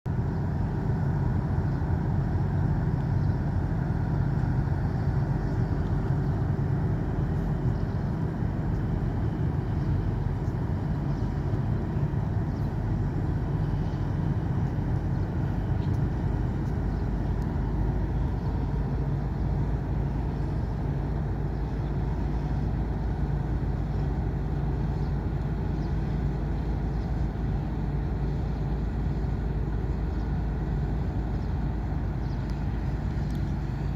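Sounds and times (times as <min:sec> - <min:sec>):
low engine rumble: 0:00.0 - 0:33.9.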